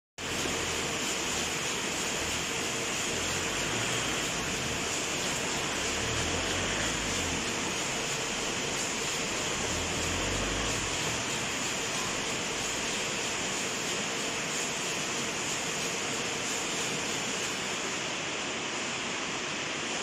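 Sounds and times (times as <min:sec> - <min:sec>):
factory machinery hiss: 0:00.2 - 0:20.0.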